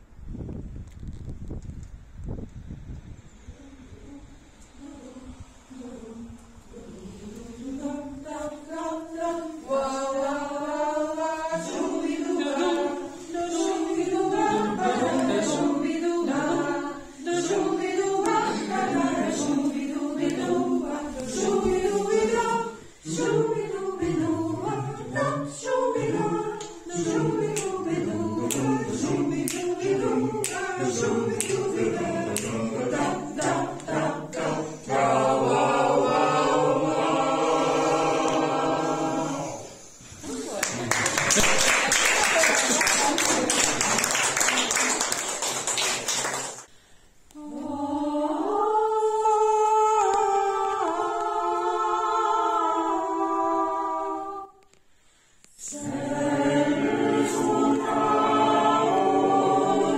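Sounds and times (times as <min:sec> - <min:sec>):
choir singing a cappella: 0:03.5 - 0:45.4, 0:47.3 - 0:54.8, 0:55.4 - 0:59.9.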